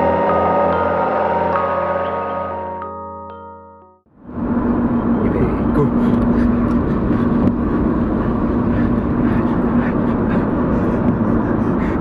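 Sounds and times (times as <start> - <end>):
engine drone: 0.0 - 3.2, 4.1 - 12.0
road rumble: 0.0 - 12.0.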